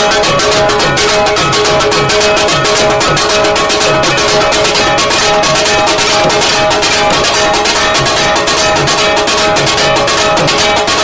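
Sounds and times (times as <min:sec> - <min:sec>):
fast plucked strings music: 0:00.0 - 0:11.0
steady beat: 0:00.0 - 0:11.0.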